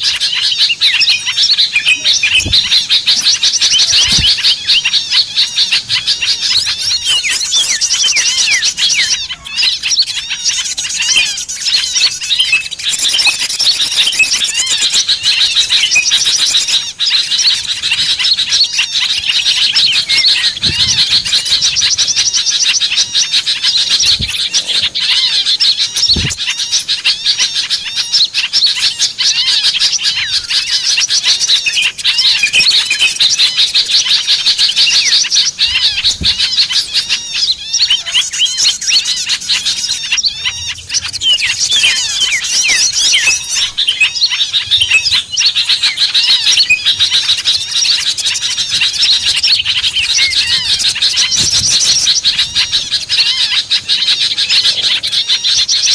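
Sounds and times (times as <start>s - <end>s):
songbirds chirping and twittering: 0.0s - 55.9s.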